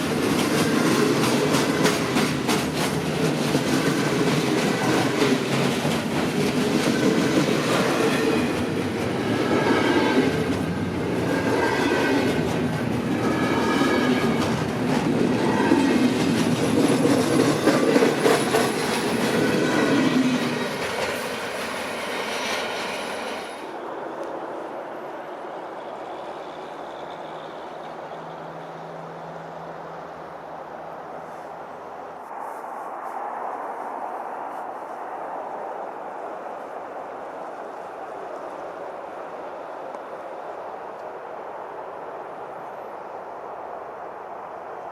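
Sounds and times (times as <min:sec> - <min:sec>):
train wheels rolling on rails: 0:00.0 - 0:44.9.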